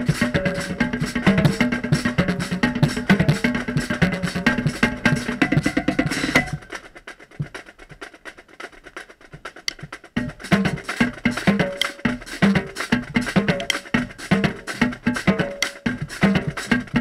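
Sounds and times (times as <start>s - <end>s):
marching drumline playing: 0.0s - 17.0s.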